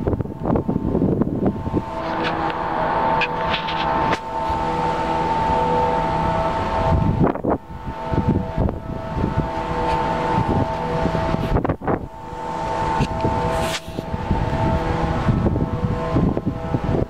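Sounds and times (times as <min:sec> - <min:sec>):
steady machine hum: 0:00.0 - 0:17.0
wind buffeting microphone: 0:00.0 - 0:17.0.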